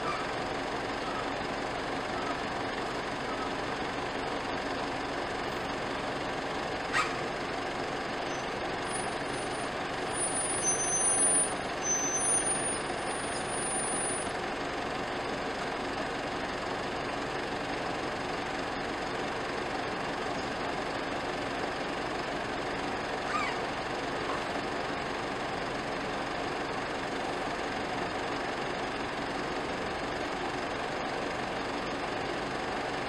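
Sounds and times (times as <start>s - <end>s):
cars idling: 0.0s - 33.0s.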